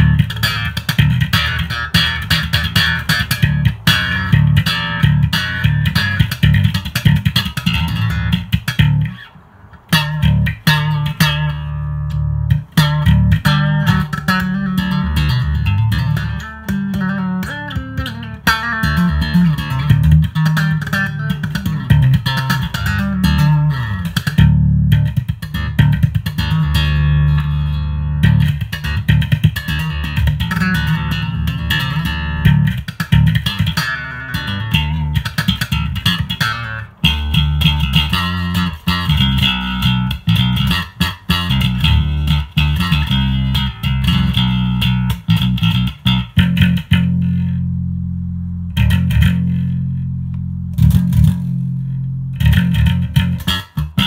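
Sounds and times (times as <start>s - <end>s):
electric bass plucked notes: 0.0s - 54.0s.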